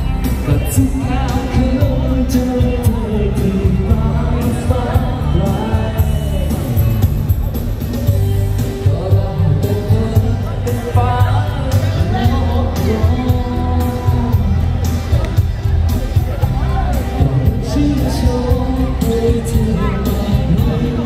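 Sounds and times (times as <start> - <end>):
live pop dance band with singer: 0.0 - 21.0.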